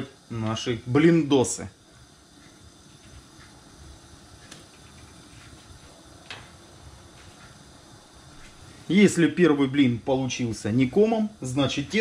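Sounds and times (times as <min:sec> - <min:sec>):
pancake sizzling in frying pan: 0:00.0 - 0:12.0.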